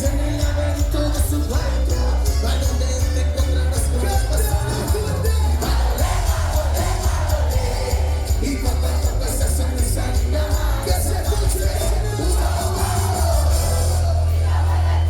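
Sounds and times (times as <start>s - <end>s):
crowd noise: 0.0s - 15.0s
live band playing loud music: 0.0s - 15.0s.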